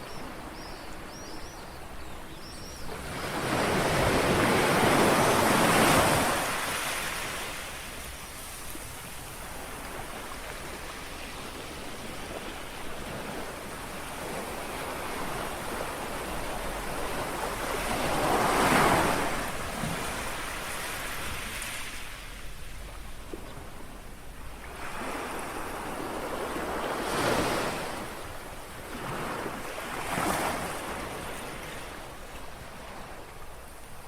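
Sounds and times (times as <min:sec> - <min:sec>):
small waves lapping on shore: 0:00.0 - 0:34.0.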